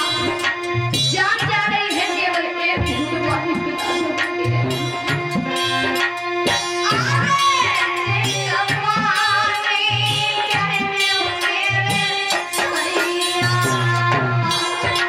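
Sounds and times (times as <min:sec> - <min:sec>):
held instrumental tones: 0:00.0 - 0:15.0
woman singing into a microphone: 0:00.0 - 0:15.0.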